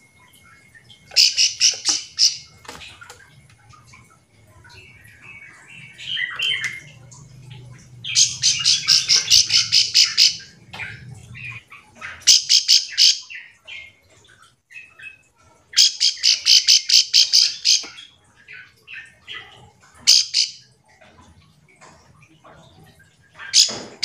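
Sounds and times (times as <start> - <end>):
bird chirping and trilling: 0.1 - 21.0, 22.8 - 24.0.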